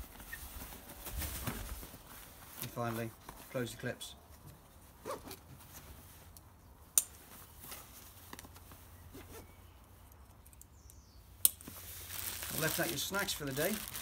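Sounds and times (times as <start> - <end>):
straps and fabric rustling: 0.0 - 9.6, 11.6 - 14.0.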